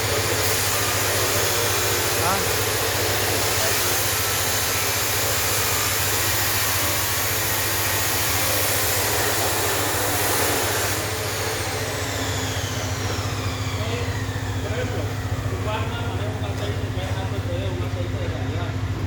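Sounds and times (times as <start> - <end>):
chainsaw engine running: 0.0 - 19.0.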